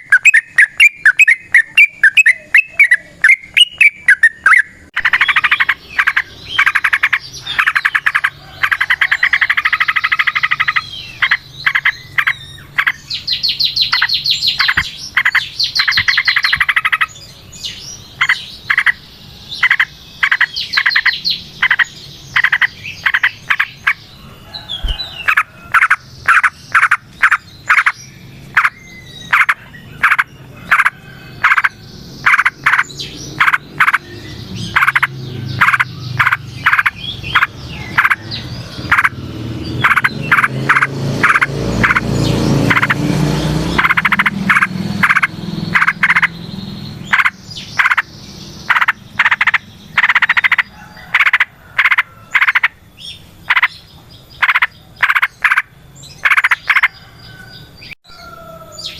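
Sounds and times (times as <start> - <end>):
bulbuls chattering trills: 0.0 - 58.0.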